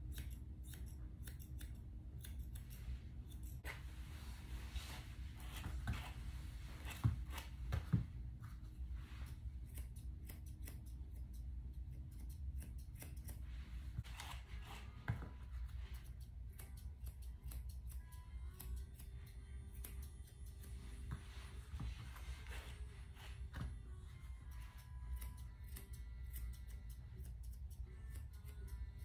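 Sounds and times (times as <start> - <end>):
grooming shears snipping: 0.0 - 4.0, 4.8 - 8.1, 9.0 - 29.0.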